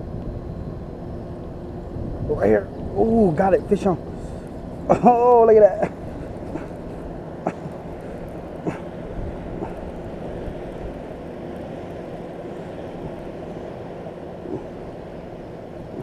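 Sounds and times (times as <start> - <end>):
low motor drone: 0.0 - 16.0.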